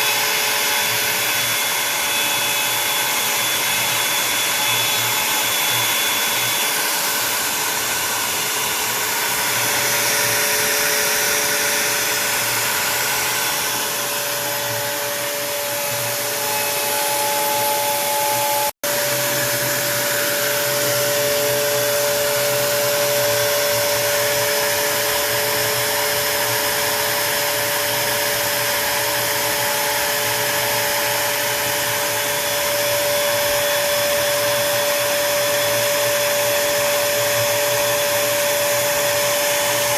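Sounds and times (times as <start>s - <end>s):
router cutting wood: 0.0s - 39.9s.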